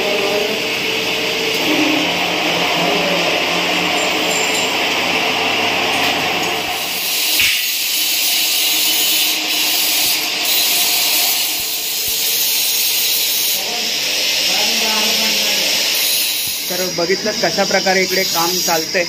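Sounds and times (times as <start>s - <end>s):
angle grinder cutting steel: 1.5s - 19.0s
drill press drilling steel: 3.6s - 19.0s.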